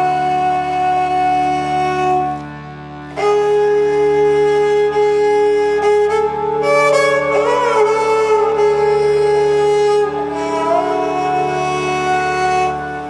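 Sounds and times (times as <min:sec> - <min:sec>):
slow calm background music: 0:00.0 - 0:13.0.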